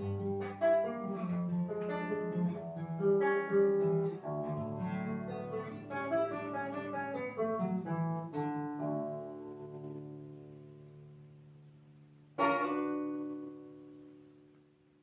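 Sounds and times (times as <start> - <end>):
plucked string instrument melody: 0.0 - 14.8.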